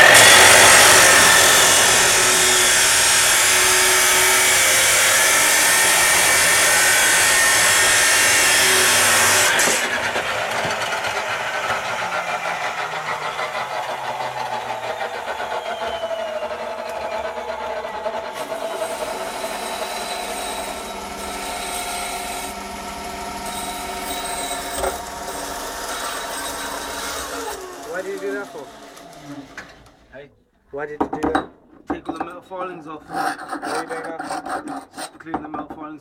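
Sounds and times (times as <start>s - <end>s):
electric grinder grinding metal: 0.0s - 29.9s.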